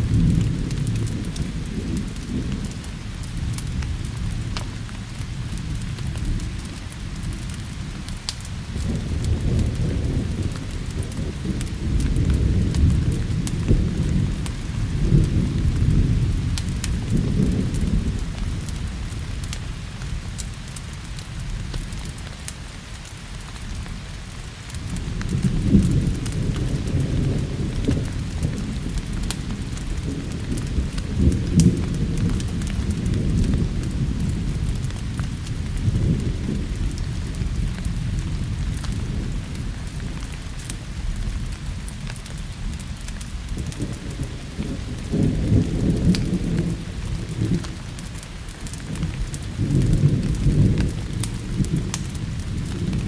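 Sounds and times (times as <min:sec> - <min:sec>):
rolling thunder: 0:00.0 - 0:20.5, 0:24.6 - 0:41.9, 0:42.6 - 0:53.0
steady rain: 0:00.0 - 0:53.0
wood fire crackling: 0:00.0 - 0:53.0.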